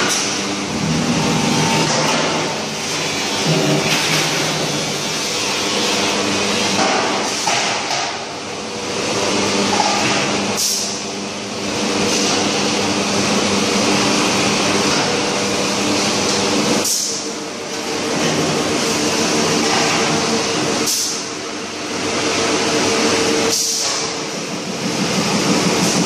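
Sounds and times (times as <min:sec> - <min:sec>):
low machinery hum: 0:00.0 - 0:26.0.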